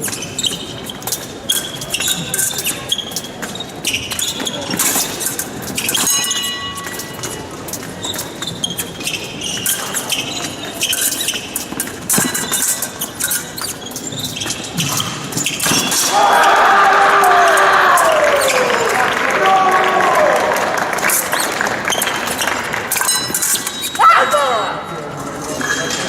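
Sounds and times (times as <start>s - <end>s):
shoes squeaking and stamping: 0.0s - 19.0s, 21.0s - 24.2s.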